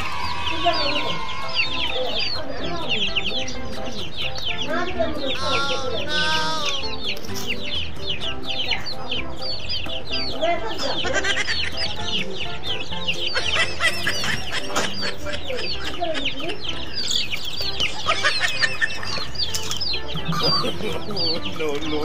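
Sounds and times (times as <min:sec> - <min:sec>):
background music: 0:00.0 - 0:22.0
chicks peeping: 0:00.0 - 0:22.0.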